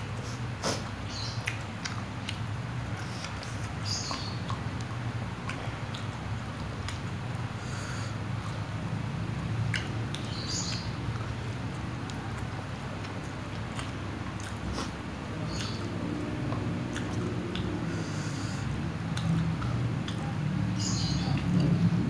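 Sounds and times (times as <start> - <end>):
person chewing noodles: 0.0 - 20.6.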